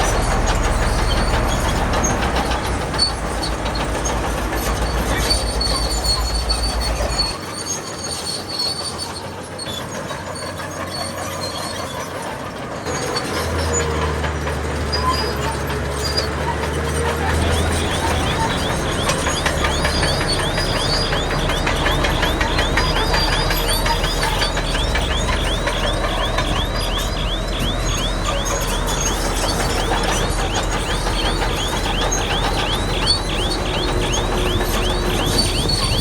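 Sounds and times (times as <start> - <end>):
diesel engine running: 0.0 - 36.0
steel tracks squealing and clattering: 0.0 - 36.0.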